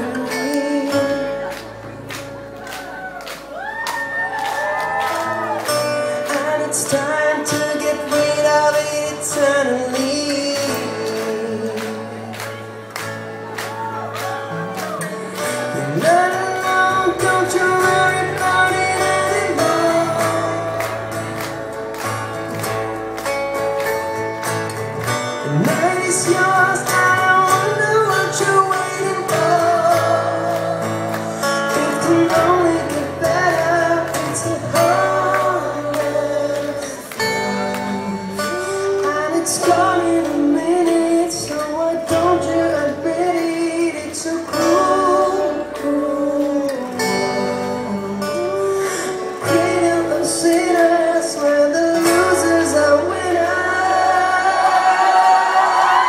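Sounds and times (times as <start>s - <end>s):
person singing: 0.0s - 21.8s, 25.3s - 56.0s
bass guitar: 0.0s - 56.0s
strummed acoustic guitars: 0.0s - 56.0s.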